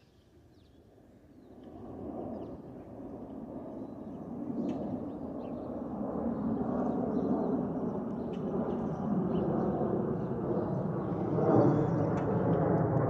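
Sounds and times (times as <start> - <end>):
jet engines roaring: 1.7 - 13.0.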